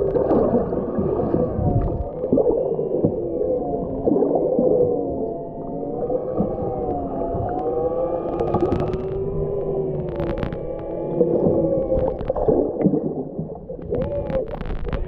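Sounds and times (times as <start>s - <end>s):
gliding tones: 0.0s - 15.0s
underwater water rush: 0.0s - 15.0s.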